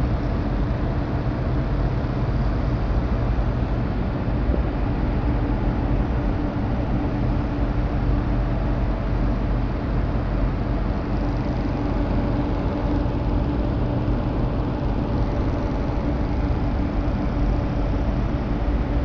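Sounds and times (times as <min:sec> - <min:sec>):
low hum: 0:03.2 - 0:19.0.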